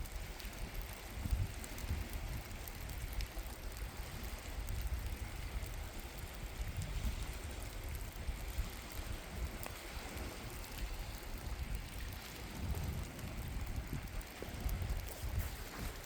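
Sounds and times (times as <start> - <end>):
rain drops ticking: 0.0 - 16.0
steady rain falling: 0.0 - 16.0.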